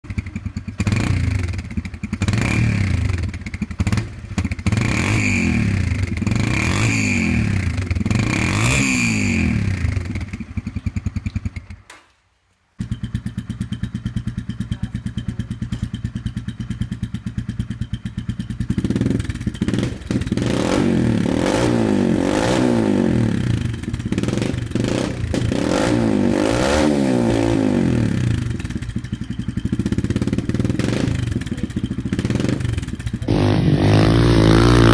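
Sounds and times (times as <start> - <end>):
motorcycle engine revving: 0.0 - 11.9, 12.8 - 34.9
motorcycle engine idling: 0.0 - 12.0, 12.7 - 26.3, 27.0 - 34.9.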